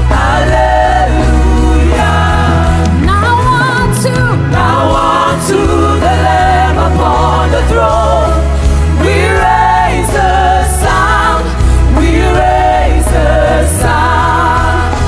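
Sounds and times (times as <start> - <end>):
choir singing: 0.0 - 3.1, 4.3 - 15.0
band playing worship music: 0.0 - 15.0
lead singer singing: 0.0 - 15.0.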